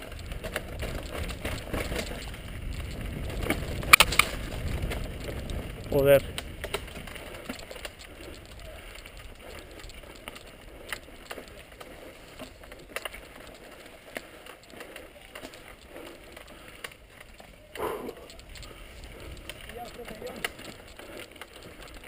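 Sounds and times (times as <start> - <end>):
bike clicks and rattles: 0.0 - 22.0
bike tyres on dirt and stones: 0.0 - 22.0.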